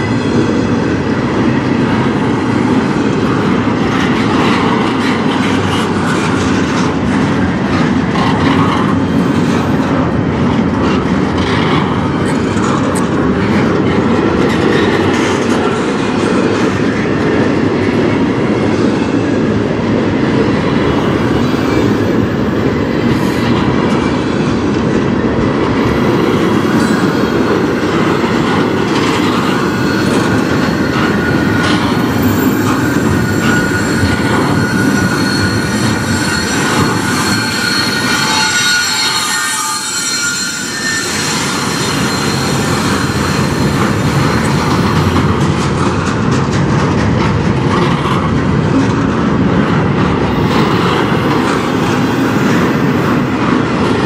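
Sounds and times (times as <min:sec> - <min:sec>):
steel train wheels rumbling on rail: 0:00.0 - 0:54.0.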